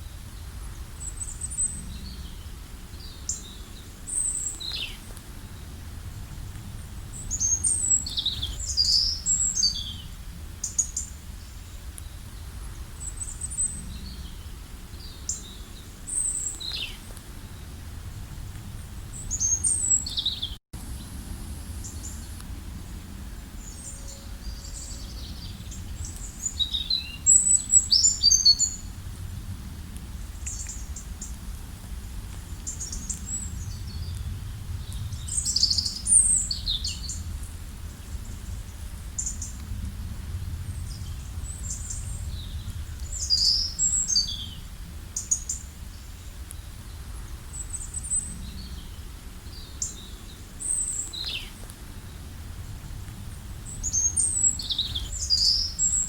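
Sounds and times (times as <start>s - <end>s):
songbirds chirping: 0.0s - 56.0s
steady low rumble: 0.0s - 56.0s.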